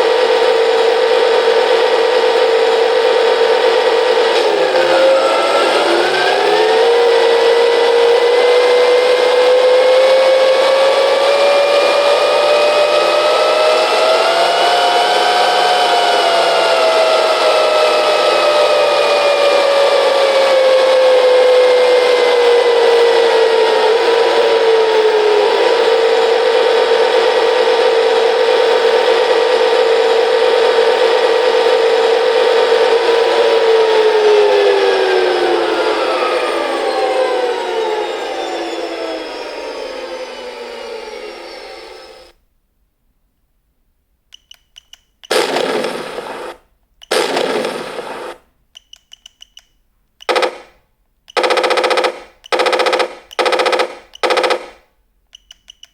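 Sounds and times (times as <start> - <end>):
simulated turbine engine whine: 0.0 - 42.4, 45.3 - 48.4, 51.4 - 54.8.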